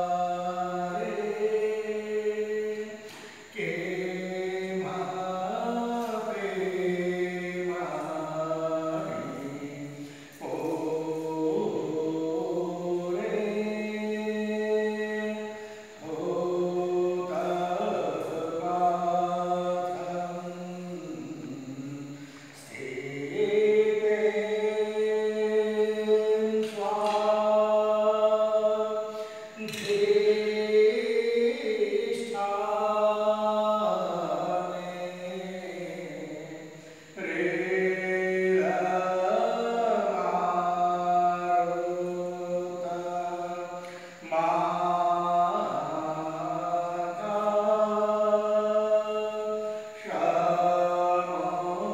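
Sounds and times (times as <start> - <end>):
devotional chanting: 0.0 - 51.9.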